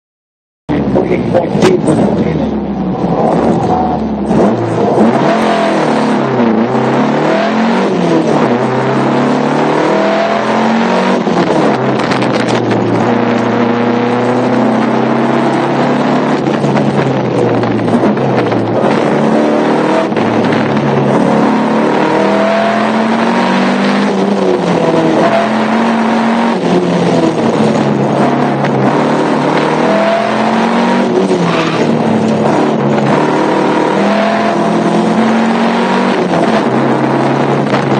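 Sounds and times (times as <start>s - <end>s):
car engine revving through gears: 0.7s - 37.9s.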